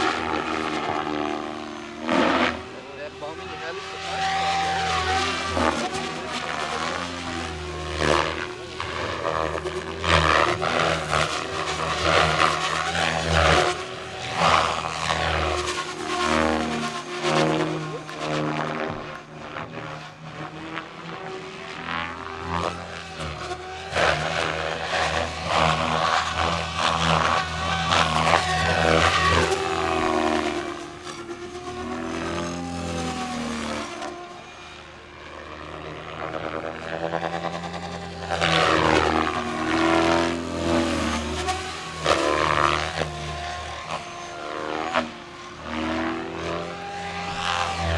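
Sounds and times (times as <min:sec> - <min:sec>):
rc helicopter rotor and whine: 0:00.0 - 0:47.9.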